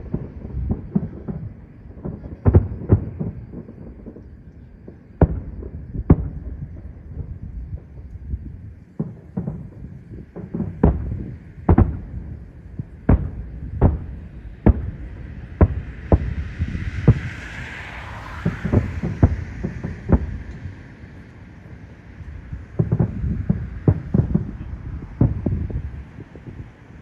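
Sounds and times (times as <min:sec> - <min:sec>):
firework shells booming: 0:00.0 - 0:17.7, 0:18.3 - 0:21.8, 0:22.5 - 0:26.8.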